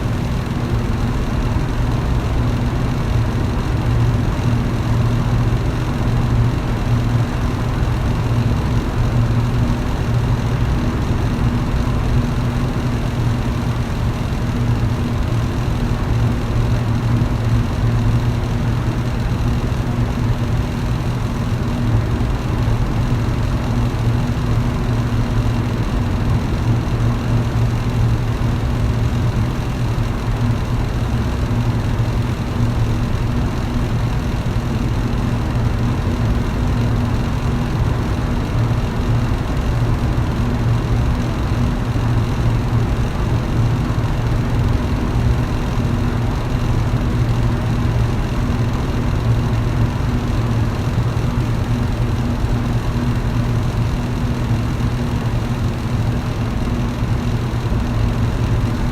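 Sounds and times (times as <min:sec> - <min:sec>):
air rushing from fan: 0:00.0 - 0:58.9
electric fan humming: 0:00.0 - 0:58.9.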